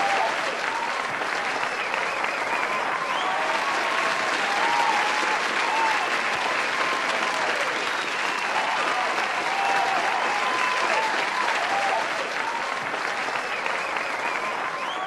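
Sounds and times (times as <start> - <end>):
audience applauding: 0.0 - 15.0
voices calling out and cheering: 0.0 - 15.0.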